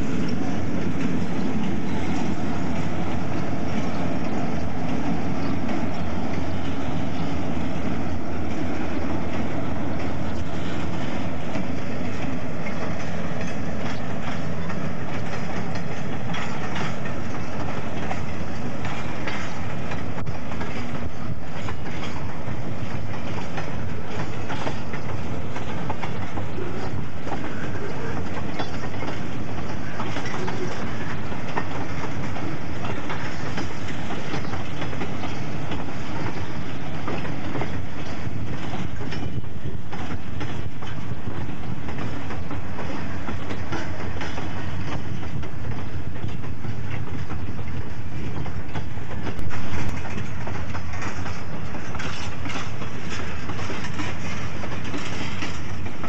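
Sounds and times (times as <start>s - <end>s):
train wheels clickety-clack: 0.0s - 56.0s.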